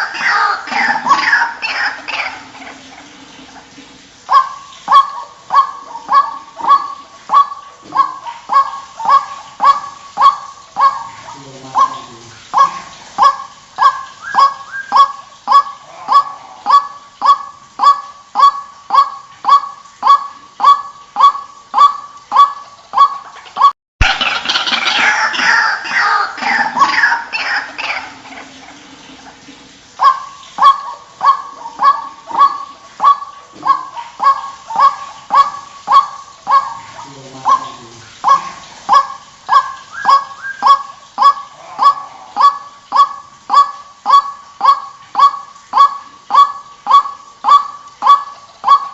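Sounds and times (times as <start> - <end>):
waterhen harsh call: 0.0 - 48.9.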